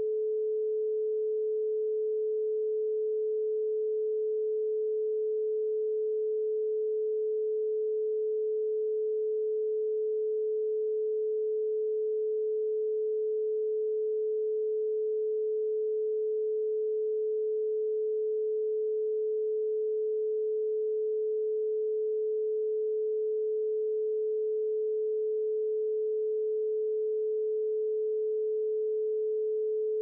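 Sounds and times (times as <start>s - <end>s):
pure sine tone: 0.0s - 30.0s.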